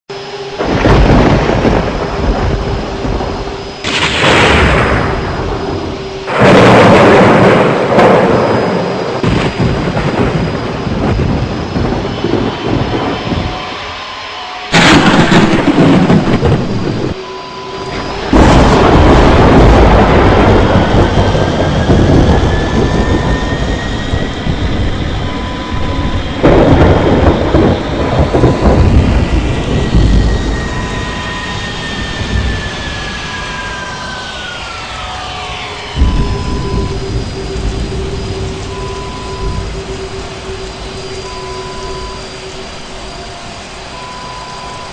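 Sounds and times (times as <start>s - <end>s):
faint rising whine: 0.1s - 44.9s
jet rumble and rushing air: 0.1s - 44.9s
rain: 0.1s - 44.9s.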